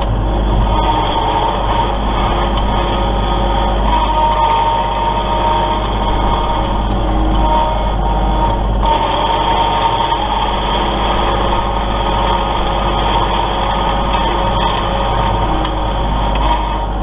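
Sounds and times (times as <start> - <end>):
high whine: 0.0 - 17.0
tractor diesel engine running: 0.0 - 17.0.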